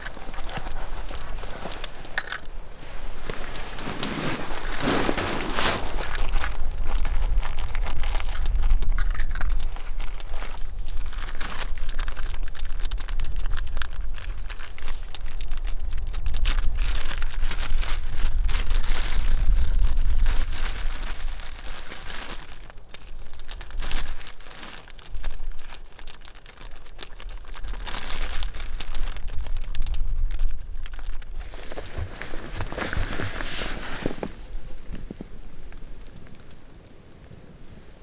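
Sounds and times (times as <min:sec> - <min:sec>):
foil and plastic bag crinkling: 0:00.0 - 0:38.0.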